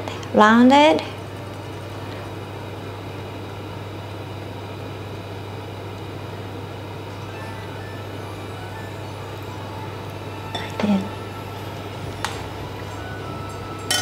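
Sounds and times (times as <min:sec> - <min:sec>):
induction cooktop humming: 0:00.0 - 0:14.0.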